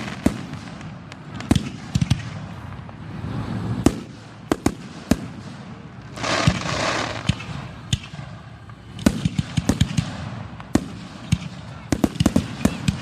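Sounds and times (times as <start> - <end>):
rapid sharp firework cracks: 0.0 - 3.1, 3.7 - 13.0
firework hiss: 0.0 - 13.0.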